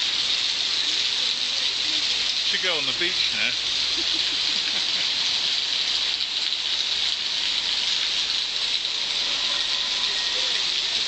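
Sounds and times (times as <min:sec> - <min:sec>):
heavy rain on paving: 0:00.0 - 0:11.0.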